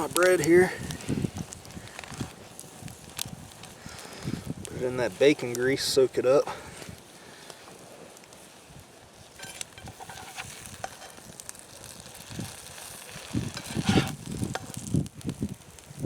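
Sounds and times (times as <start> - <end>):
bread sizzling in grease: 0.0 - 16.0.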